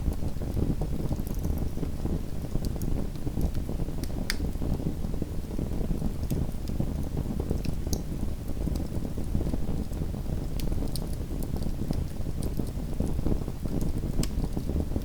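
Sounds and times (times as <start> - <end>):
fire crackles and pops: 0.0 - 15.0.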